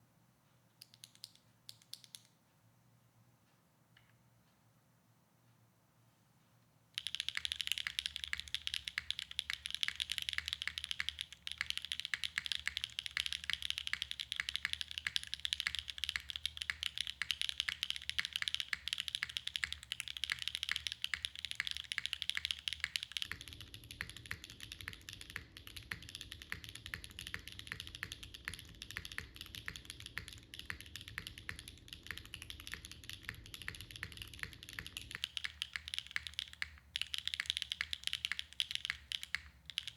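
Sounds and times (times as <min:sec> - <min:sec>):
mechanical keyboard typing: 0:00.8 - 0:02.3, 0:07.0 - 0:39.9.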